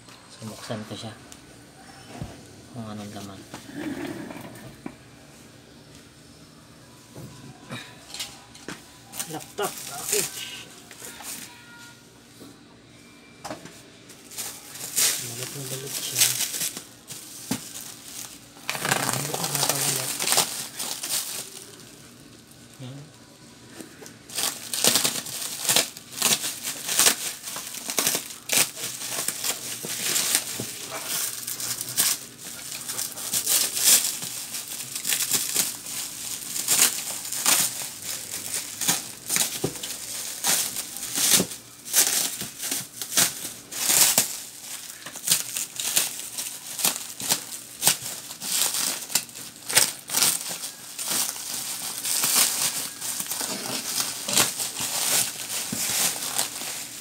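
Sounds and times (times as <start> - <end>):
bubble wrap crinkling: 7.5 - 12.0, 14.1 - 57.0.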